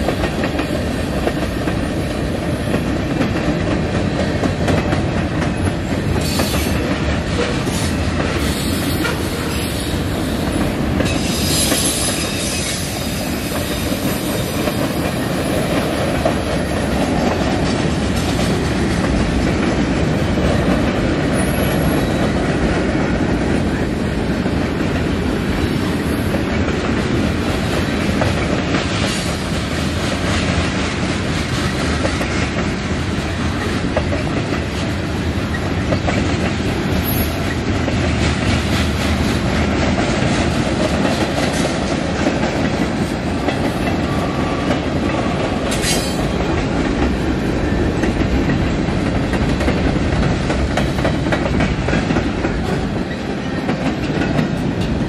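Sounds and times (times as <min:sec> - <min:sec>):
freight cars rumbling on rails: 0:00.0 - 0:55.0.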